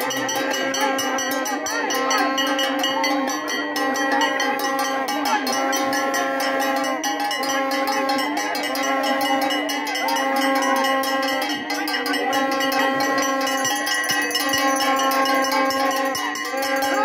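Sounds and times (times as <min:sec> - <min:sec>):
crowd shouting: 0:00.0 - 0:17.0
metal bells ringing rapidly: 0:00.0 - 0:17.0.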